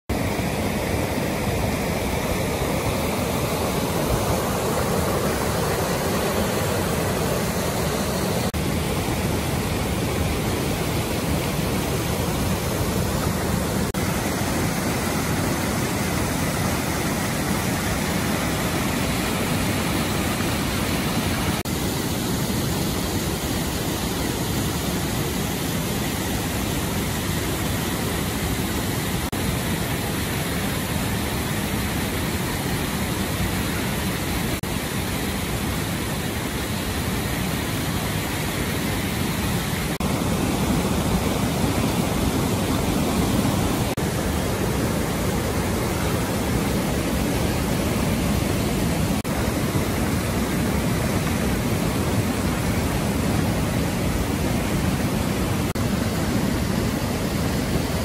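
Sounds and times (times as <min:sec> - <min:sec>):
creek water rushing over rocks: 0:00.1 - 0:58.0.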